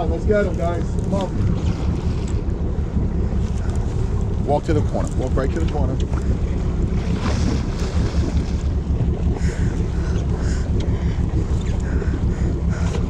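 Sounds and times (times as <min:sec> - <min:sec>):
boat engine drone: 0:00.0 - 0:13.0
wind buffeting microphone: 0:00.0 - 0:13.0.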